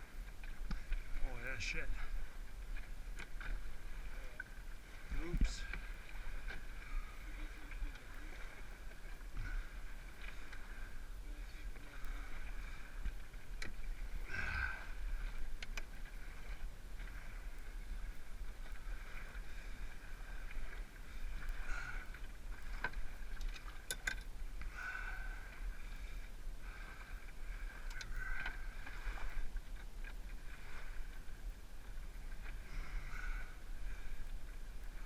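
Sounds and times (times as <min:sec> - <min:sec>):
paddle swishing water: 0:00.0 - 0:35.0.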